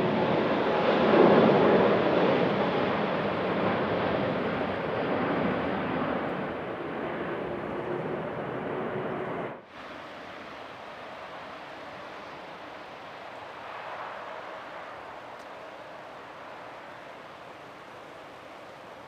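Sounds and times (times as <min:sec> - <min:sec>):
jet airliner passing: 0:00.0 - 0:19.0.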